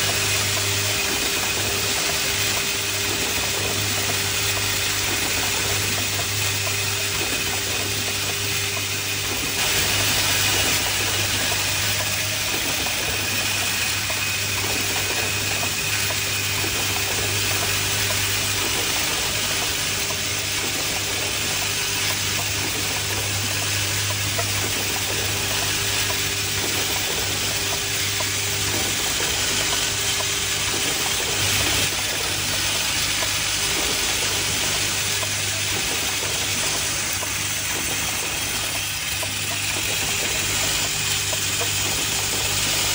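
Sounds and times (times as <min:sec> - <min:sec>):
machinery humming and hissing: 0:00.0 - 0:42.9.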